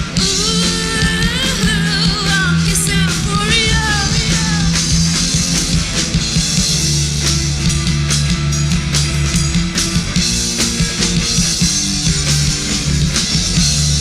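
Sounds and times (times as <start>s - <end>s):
bass guitar: 0.0s - 14.0s
distorted electric guitar: 0.0s - 14.0s
drum kit with crashing cymbals: 0.0s - 14.0s
vocal or lead guitar line: 0.0s - 14.0s.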